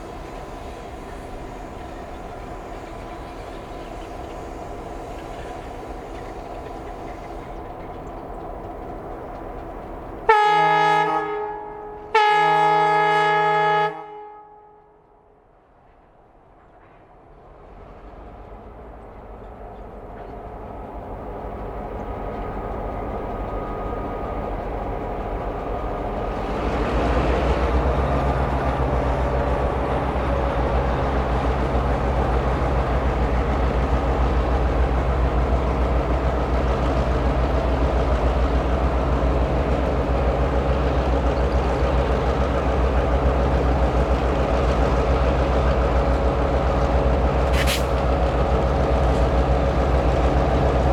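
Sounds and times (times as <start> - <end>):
locomotive engine drone: 0.0 - 13.8, 16.6 - 50.9
rail rumble: 0.0 - 50.9.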